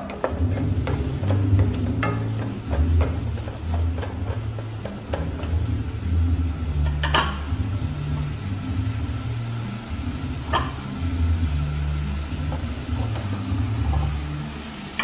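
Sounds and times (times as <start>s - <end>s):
low uneven rumble: 0.3s - 15.0s.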